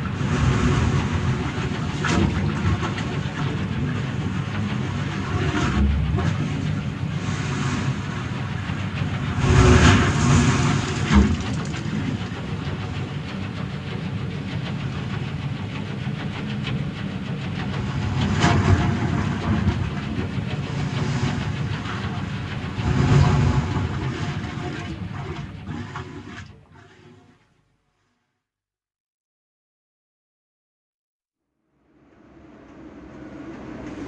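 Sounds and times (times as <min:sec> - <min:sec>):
low rumble: 0:00.0 - 0:26.6, 0:31.8 - 0:34.0.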